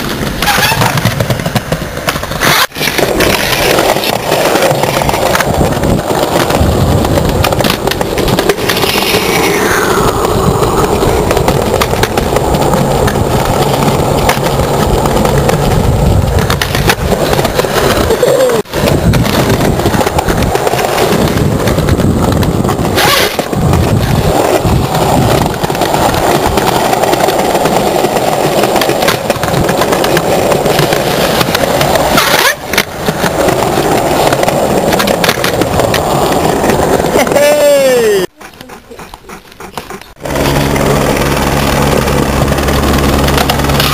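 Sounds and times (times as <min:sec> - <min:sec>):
skateboard clack: 0:00.0 - 0:38.2, 0:39.6 - 0:43.9
skateboard wheels rolling on stone: 0:00.0 - 0:43.9.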